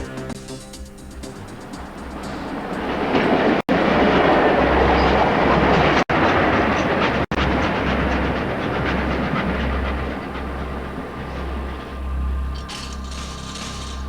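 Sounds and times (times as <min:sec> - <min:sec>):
train rolling on rails: 0:00.0 - 0:14.0.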